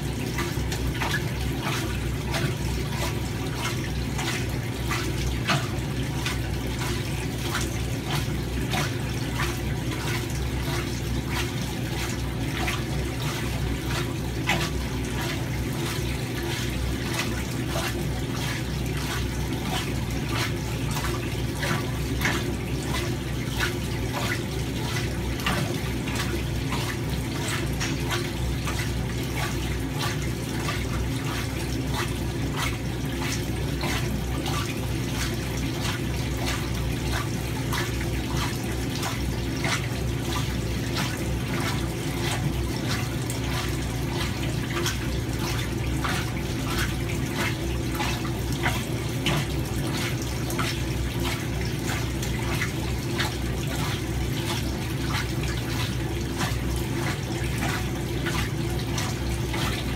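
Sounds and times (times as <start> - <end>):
washing machine hum: 0.0 - 59.9
water pouring into washing machine: 0.0 - 59.9.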